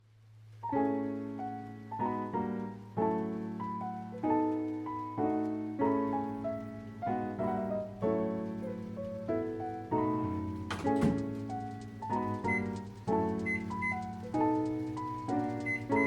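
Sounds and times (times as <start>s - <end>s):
piano-like keyboard chords: 0.6s - 16.0s.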